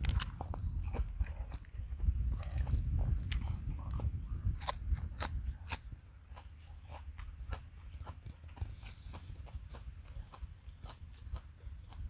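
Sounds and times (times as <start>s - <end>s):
chewing crunchy food: 0.0s - 12.0s
wind buffeting microphone: 0.0s - 12.0s.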